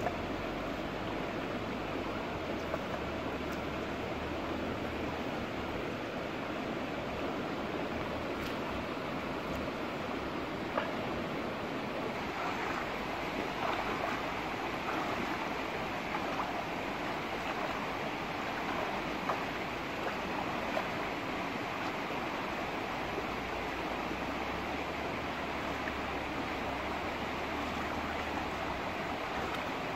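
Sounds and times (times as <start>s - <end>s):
faint water splashes: 0.0s - 29.9s
rocky stream running: 0.0s - 29.9s.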